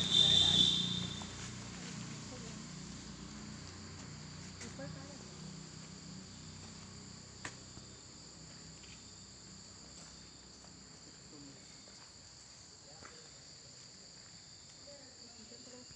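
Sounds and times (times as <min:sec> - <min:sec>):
insect chorus drone: 0:00.0 - 0:15.9.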